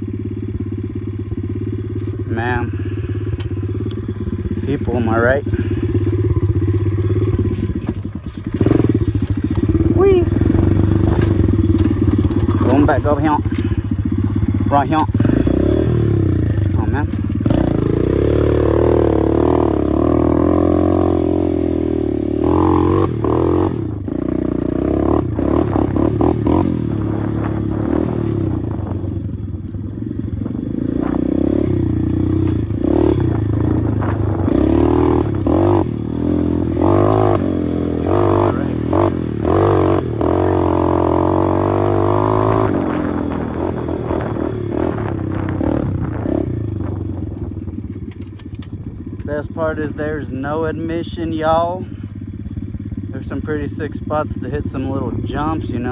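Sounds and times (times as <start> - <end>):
pit bike engine revving: 0.0 - 55.9
bike rattling and knocks: 3.4 - 49.5.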